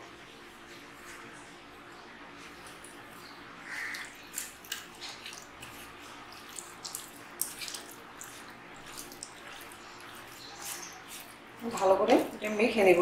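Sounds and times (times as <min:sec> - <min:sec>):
hand squelching wet batter: 0:02.3 - 0:13.0.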